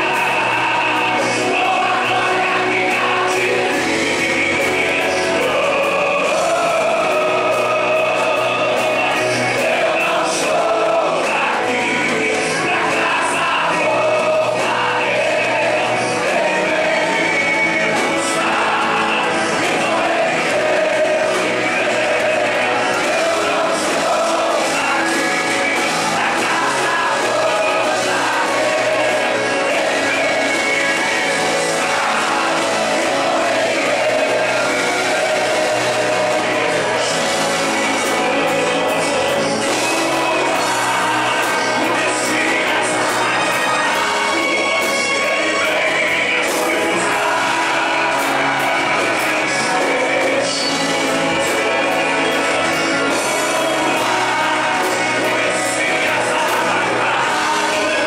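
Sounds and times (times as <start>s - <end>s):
amplified instrumental accompaniment: 0.0s - 58.0s
congregation singing: 0.0s - 58.0s
man singing into microphone: 0.0s - 58.0s.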